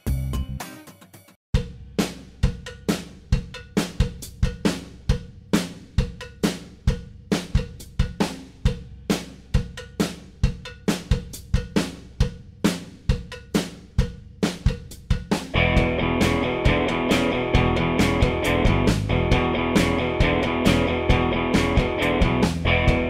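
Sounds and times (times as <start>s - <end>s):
rock drum beat: 1.5s - 23.0s.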